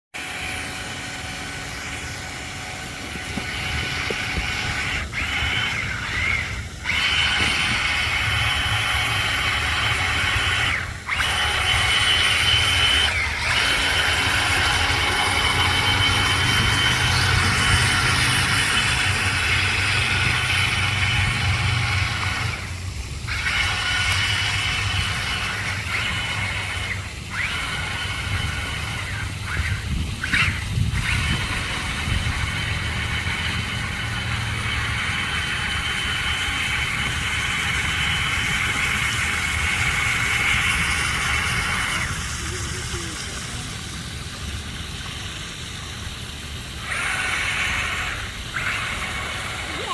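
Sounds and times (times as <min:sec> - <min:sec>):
toy truck electric motor whine: 0:00.2 - 0:49.9.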